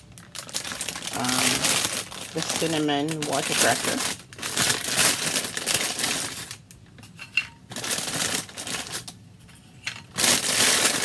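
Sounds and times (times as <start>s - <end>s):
plastic packet crinkling: 0.0s - 9.2s, 9.8s - 11.0s.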